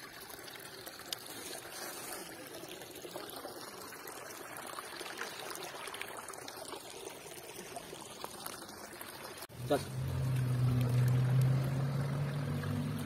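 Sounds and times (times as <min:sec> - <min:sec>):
water trickling over rocks: 0:00.0 - 0:13.0.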